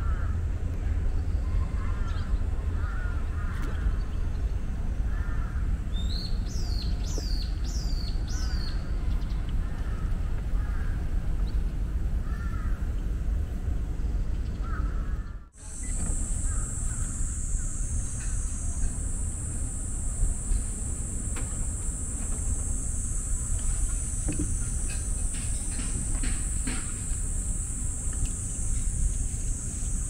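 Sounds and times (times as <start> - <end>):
steady low rumble: 0.0 - 30.0
birds calling: 1.2 - 13.1, 14.0 - 30.0.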